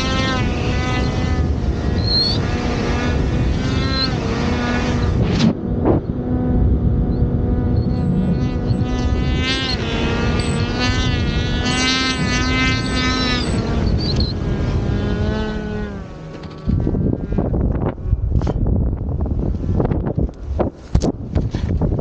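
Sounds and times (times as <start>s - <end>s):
low wind rumble: 0.0s - 22.0s
snowmobile engine whining: 0.0s - 22.0s
wind gust hitting microphone: 0.0s - 22.0s.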